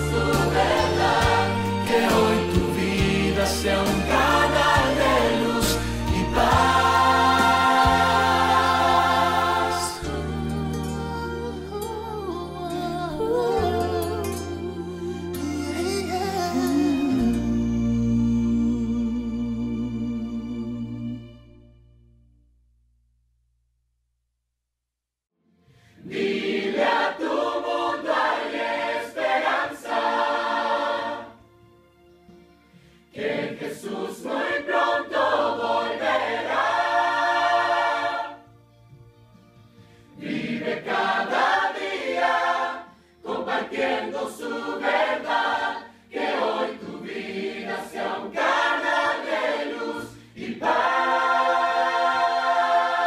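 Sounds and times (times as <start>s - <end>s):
choir singing: 0.0s - 21.3s, 26.0s - 31.4s, 33.1s - 38.5s, 40.1s - 53.0s.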